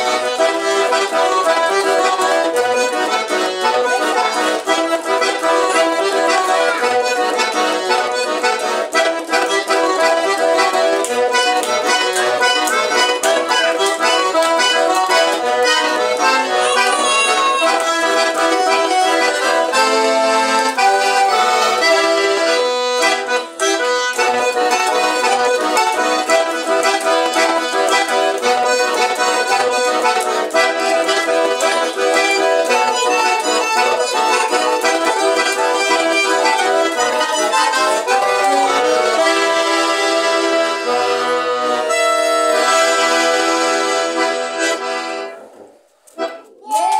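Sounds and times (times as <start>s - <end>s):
button accordions playing: 0.0s - 46.6s.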